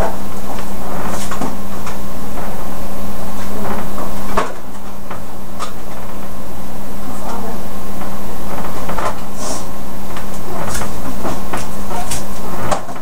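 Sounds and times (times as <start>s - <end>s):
loud steady hum: 0.0s - 13.0s.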